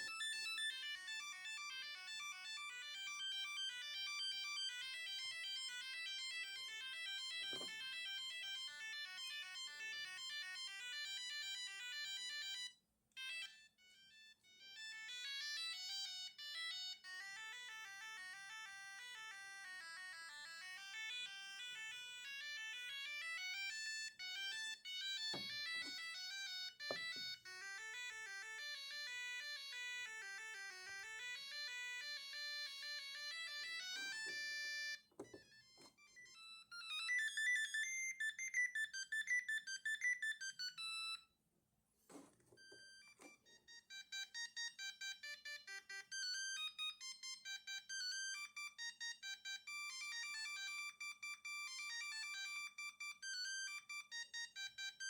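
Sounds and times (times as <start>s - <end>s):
mobile phone ringtone melodies: 0.0s - 41.3s, 42.5s - 55.0s.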